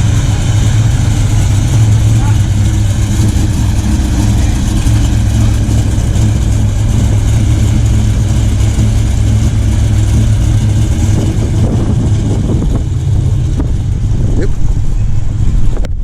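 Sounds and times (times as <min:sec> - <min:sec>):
car engine deep exhaust rumble: 0:00.0 - 0:16.0.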